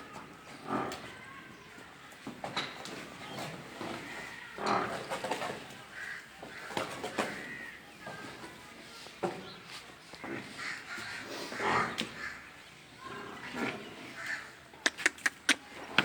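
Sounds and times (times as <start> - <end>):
birds chirping and cawing: 0.1 - 16.0.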